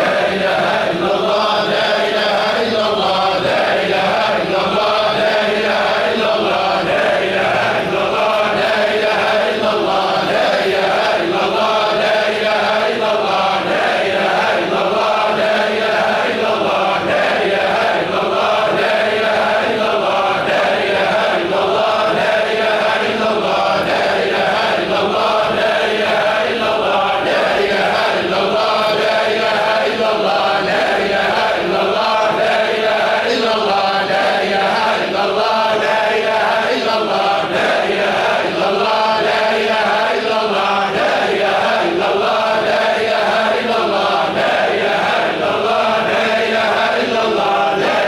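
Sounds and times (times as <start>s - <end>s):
men chanting in unison: 0.0s - 48.0s.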